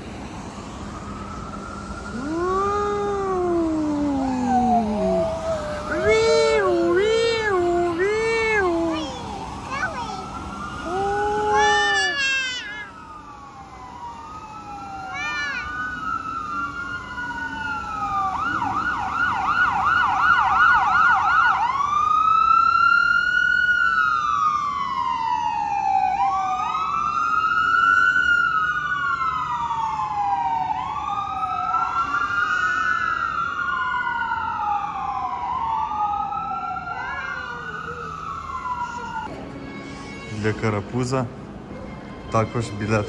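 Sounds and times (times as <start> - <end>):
second siren wailing: 0.0 - 41.2
fire truck siren wailing and yelping: 0.0 - 43.0.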